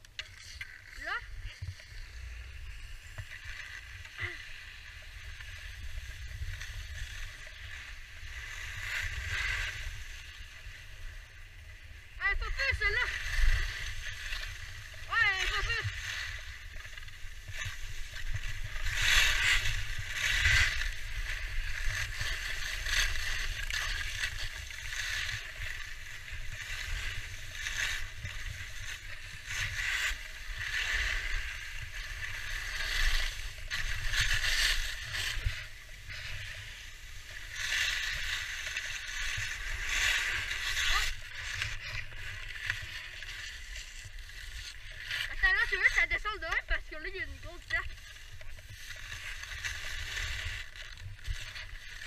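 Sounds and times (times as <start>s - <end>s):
skis carving over packed snow: 0.0s - 52.0s.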